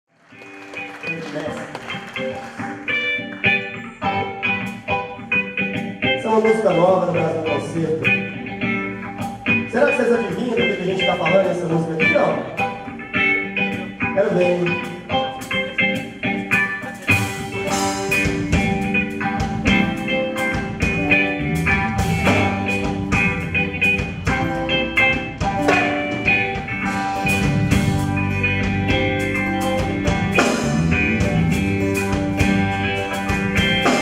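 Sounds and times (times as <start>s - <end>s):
band playing festive music: 0.2s - 34.0s.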